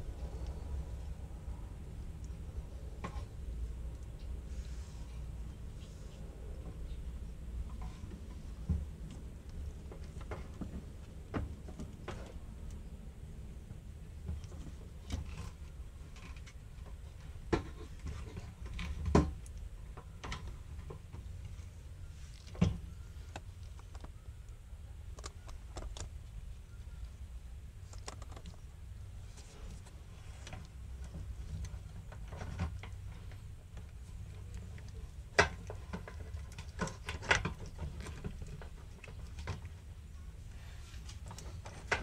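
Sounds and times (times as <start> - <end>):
low steady rumble: 0.0 - 42.0.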